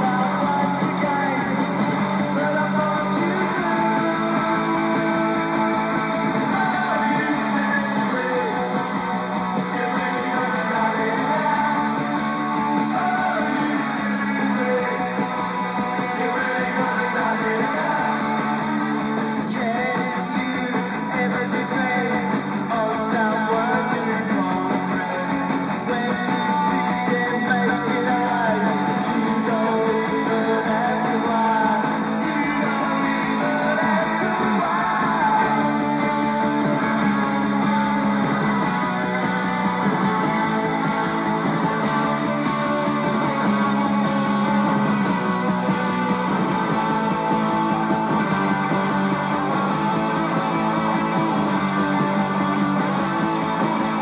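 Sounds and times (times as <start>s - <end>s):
punk rock music: 0.0s - 54.0s.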